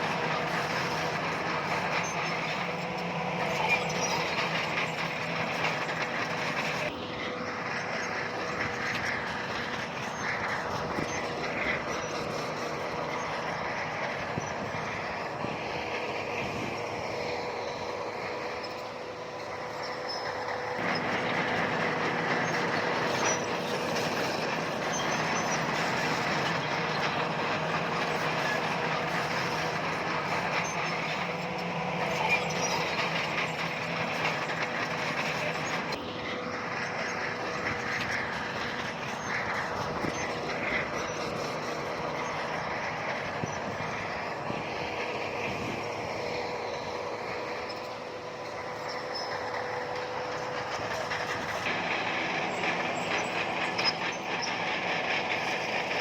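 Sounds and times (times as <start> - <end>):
diesel engine under load: 0.0 - 56.0
steel tracks clanking and squealing: 0.0 - 56.0.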